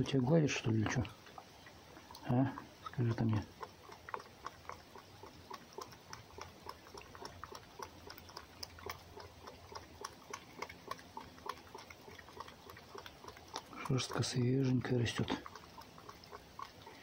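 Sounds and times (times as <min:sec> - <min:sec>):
fox chewing mouth clicks: 0:00.0 - 0:17.0.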